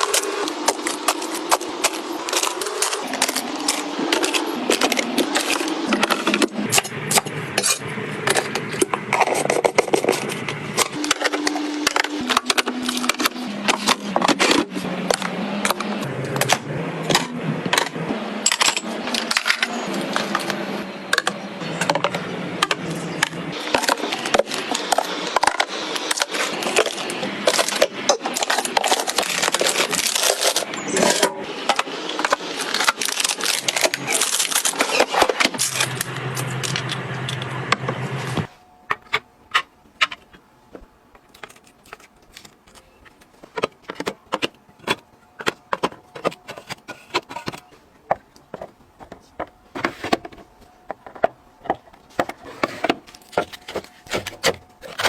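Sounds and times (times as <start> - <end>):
food packages clattering and rustling: 0.0 - 16.0, 18.5 - 37.5, 38.9 - 55.0.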